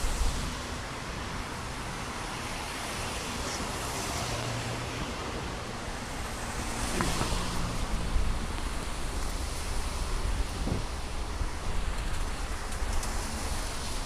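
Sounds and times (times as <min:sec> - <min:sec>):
wind across microphone: 0:00.0 - 0:02.2, 0:04.9 - 0:14.0
tyres hissing on wet path: 0:00.0 - 0:14.0.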